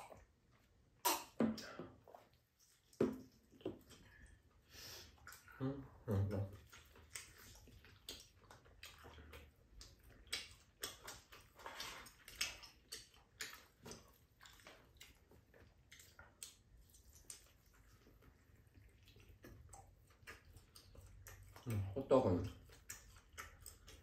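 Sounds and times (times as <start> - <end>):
mouth clicks and smacks of chewing: 0.0 - 5.6, 6.4 - 24.0.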